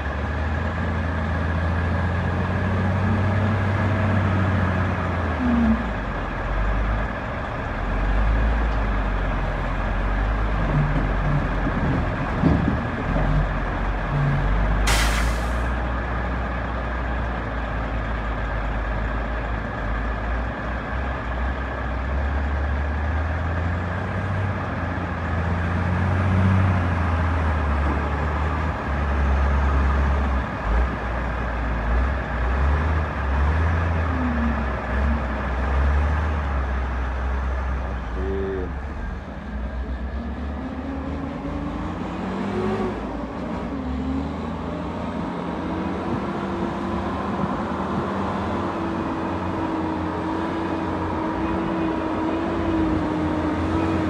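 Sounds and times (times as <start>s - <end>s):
dump truck approaching: 0.0s - 54.0s
wheel loader diesel engine rumbling: 0.0s - 54.0s.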